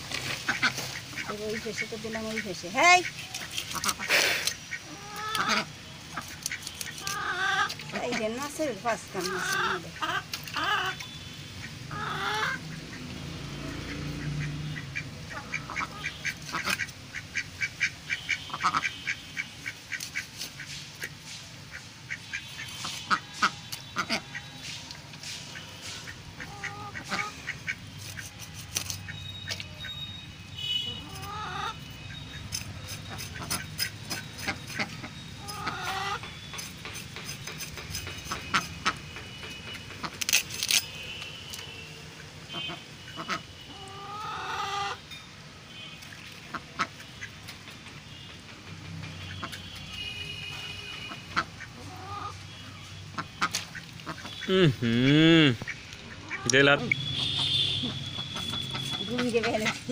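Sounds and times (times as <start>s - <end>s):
poultry calling: 0.5s - 21.1s, 21.7s - 24.5s, 25.5s - 30.0s, 30.6s - 40.3s, 42.5s - 45.0s, 50.9s - 59.9s.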